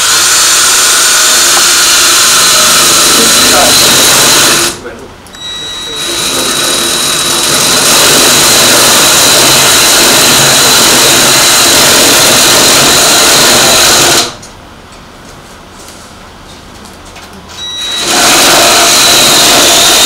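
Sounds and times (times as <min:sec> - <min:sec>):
electric drill boring metal: 0:00.0 - 0:04.8, 0:05.4 - 0:14.4, 0:17.6 - 0:20.0.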